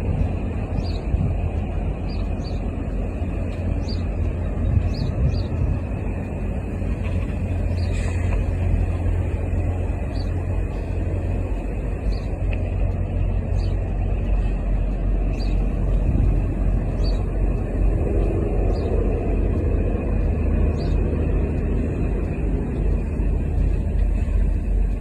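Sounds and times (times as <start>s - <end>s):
car engine low rumble: 0.0s - 25.0s.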